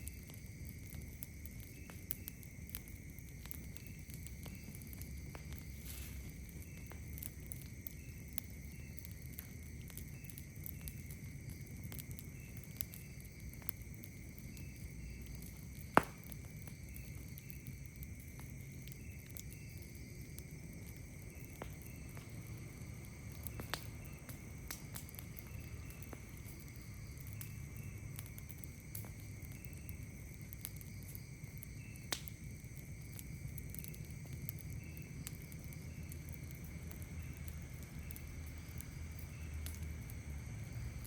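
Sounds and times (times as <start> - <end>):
campfire crackling and popping: 0.0 - 41.0
insect chirps: 0.0 - 41.0
night insects droning: 0.0 - 41.0.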